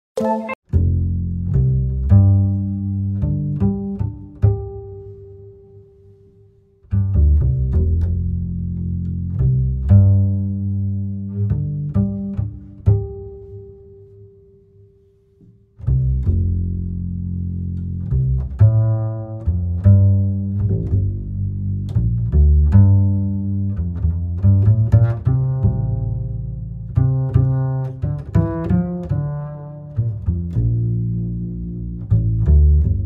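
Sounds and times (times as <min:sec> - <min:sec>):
low instrumental music: 0:00.2 - 0:33.0.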